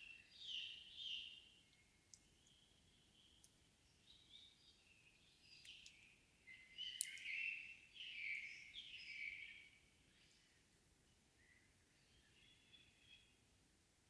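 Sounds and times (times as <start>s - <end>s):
forest birds singing: 0.0s - 13.4s.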